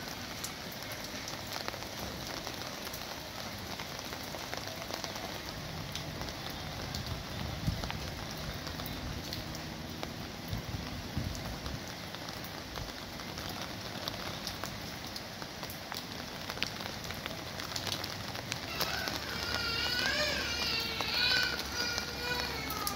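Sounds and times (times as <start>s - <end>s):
rain falling: 0.0s - 22.9s.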